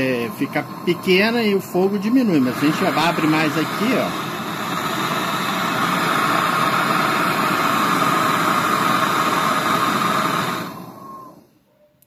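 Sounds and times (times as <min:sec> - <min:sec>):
gas torch flames hissing: 0:00.0 - 0:11.5.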